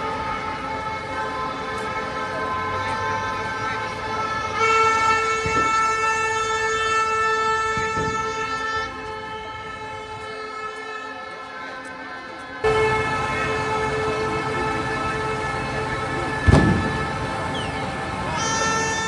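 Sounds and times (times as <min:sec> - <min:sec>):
air horn blast: 0:00.0 - 0:19.0
held horn or siren tone: 0:00.0 - 0:19.0.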